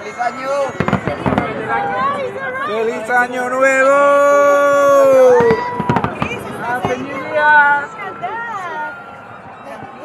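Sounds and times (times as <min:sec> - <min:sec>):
high-pitched cheer: 0:00.0 - 0:09.0
fireworks banging: 0:00.2 - 0:10.0.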